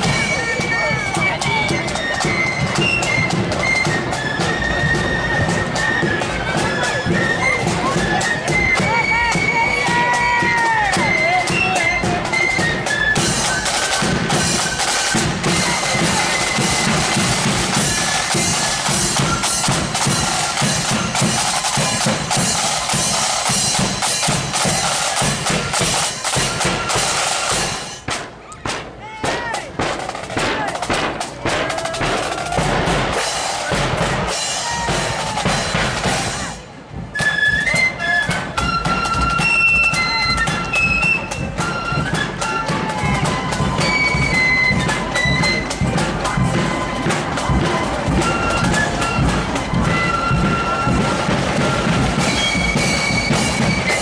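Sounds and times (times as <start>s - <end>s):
flutes playing: 0.0s - 28.6s, 31.4s - 54.0s
snare and bass drums: 0.0s - 54.0s.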